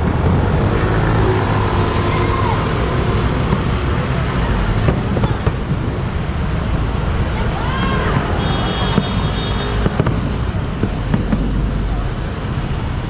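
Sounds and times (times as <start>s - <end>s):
crowd murmur: 0.0s - 13.0s
passing cars and scooters: 0.0s - 13.0s.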